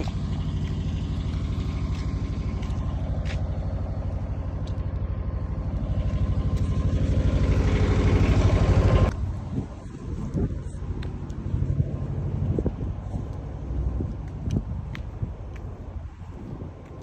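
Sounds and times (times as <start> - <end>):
engine running with rapid pulsing: 0.0 - 17.0.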